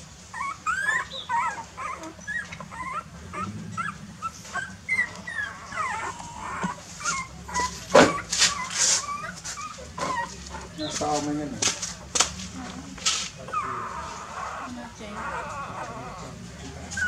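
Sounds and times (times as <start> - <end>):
puppies whimpering and squeaking: 0.0 - 17.0.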